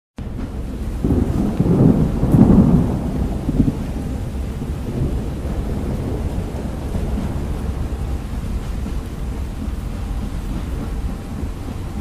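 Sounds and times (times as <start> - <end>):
steady rain: 0.2 - 12.0
thunder rumbling: 0.2 - 12.0.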